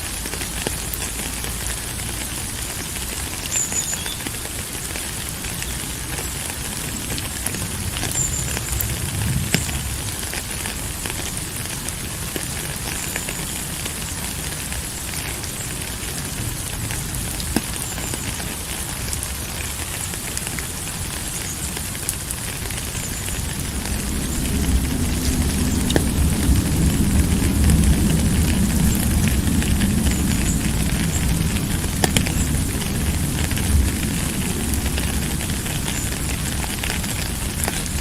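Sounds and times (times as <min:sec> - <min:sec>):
steady rain falling: 0:00.0 - 0:38.0
raindrop clicks: 0:00.1 - 0:38.0.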